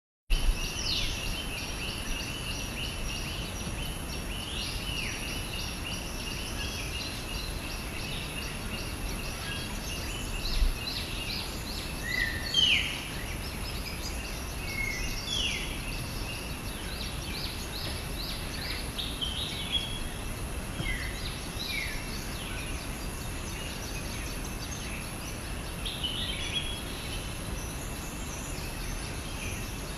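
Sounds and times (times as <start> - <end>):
birds calling with falling whistles: 0.4 - 29.9.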